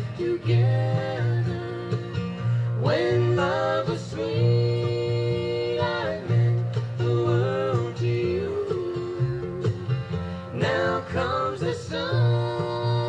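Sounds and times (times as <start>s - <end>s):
person singing sliding melody: 0.0s - 2.2s, 2.8s - 9.8s, 10.5s - 13.0s
acoustic guitar: 0.0s - 13.0s
plucked strings: 0.0s - 13.0s.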